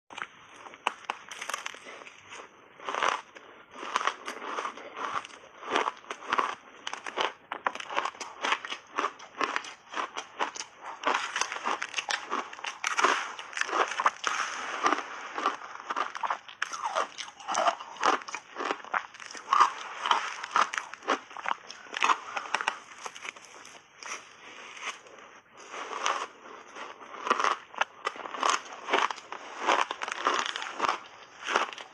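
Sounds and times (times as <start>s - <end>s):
person crunching shaved ice: 0.1s - 31.9s.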